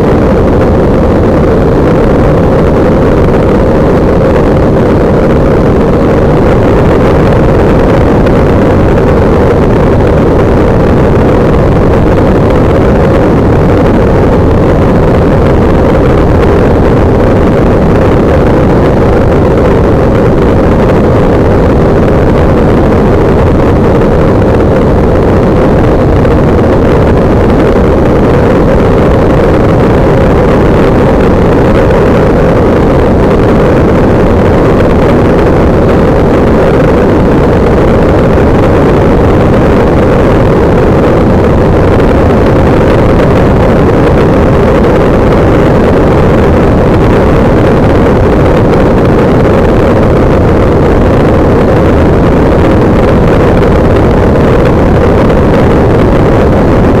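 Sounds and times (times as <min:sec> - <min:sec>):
ultralight aircraft engine running: 0:00.0 - 0:57.0
wind rushing over microphone: 0:00.0 - 0:57.0.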